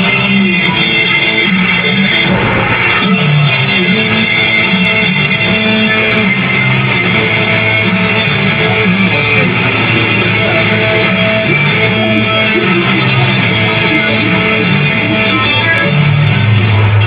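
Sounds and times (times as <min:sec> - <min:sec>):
guitar-led music: 0:00.0 - 0:17.0.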